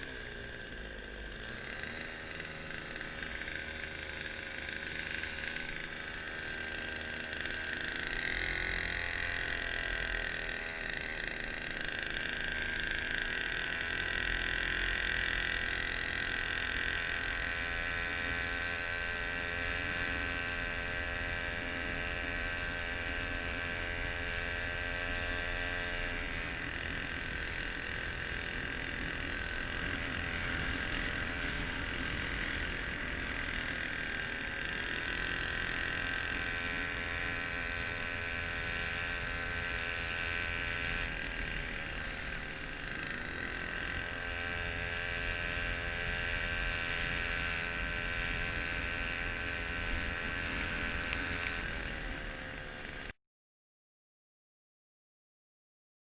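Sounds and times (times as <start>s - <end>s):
outboard motor running: 0.0s - 53.2s.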